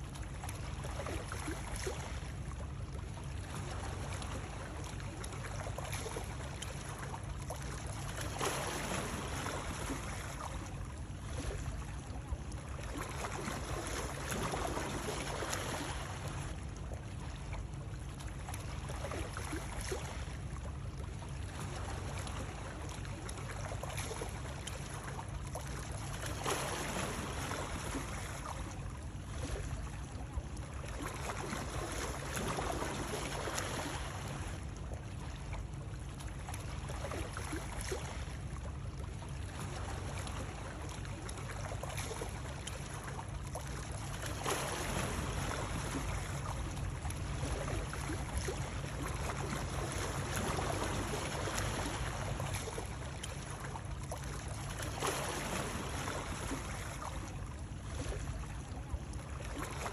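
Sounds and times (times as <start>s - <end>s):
water noise: 0.0s - 59.9s.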